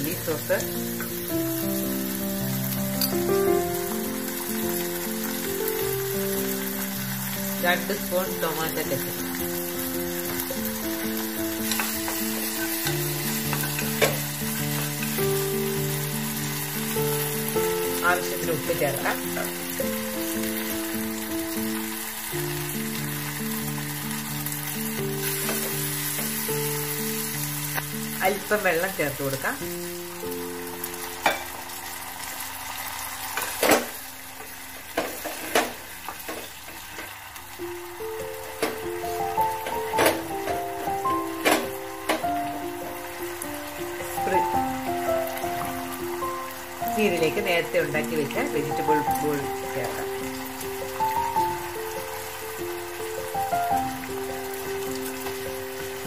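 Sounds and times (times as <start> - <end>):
background music of held notes: 0.0 - 34.1, 37.6 - 56.0
vegetables sizzling in a pan: 0.0 - 56.0.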